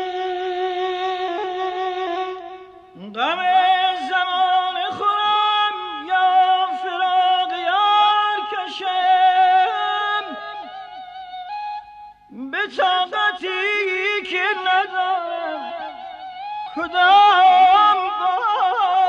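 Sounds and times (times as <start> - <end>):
man singing classical vocal music: 0.0 - 11.5, 12.2 - 19.0.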